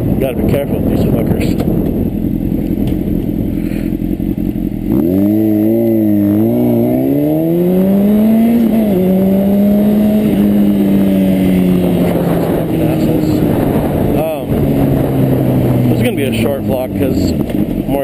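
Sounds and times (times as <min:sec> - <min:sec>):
motorcycle engine pulling away: 0:01.7 - 0:18.0.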